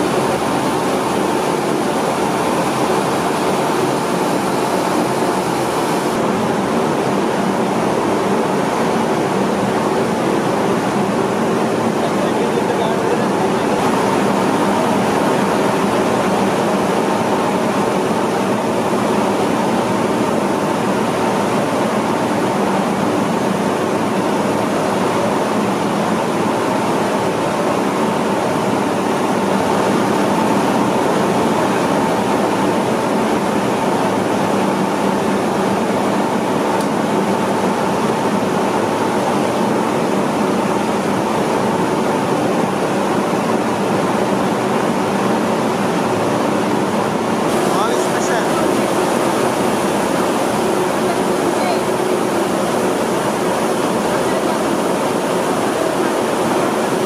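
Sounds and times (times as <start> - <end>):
mill machinery droning: 0.0 - 57.0.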